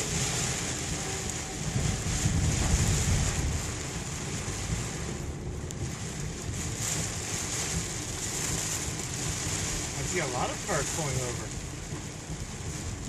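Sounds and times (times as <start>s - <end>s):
heavy rain on car: 0.0s - 13.0s
road and wind noise: 0.0s - 13.0s.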